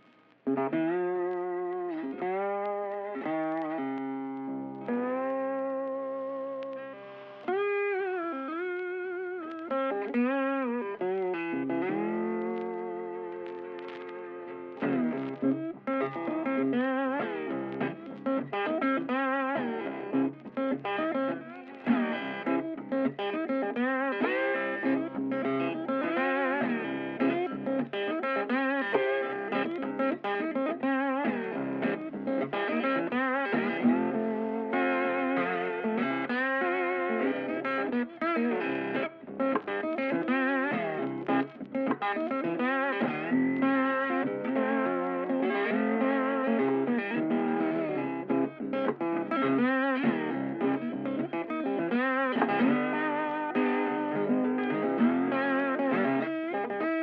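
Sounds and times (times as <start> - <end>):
guitar melody with bending notes: 0.0 - 57.0.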